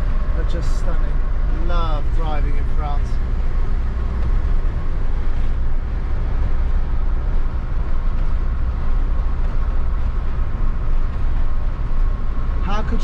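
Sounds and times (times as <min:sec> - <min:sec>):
diesel engine rumble: 0:00.0 - 0:13.0
tyres on the road: 0:00.0 - 0:13.0.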